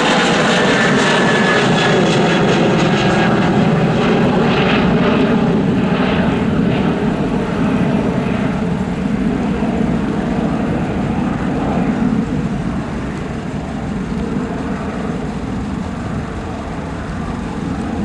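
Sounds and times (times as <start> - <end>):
jet engines deep rumble: 0.0 - 18.0.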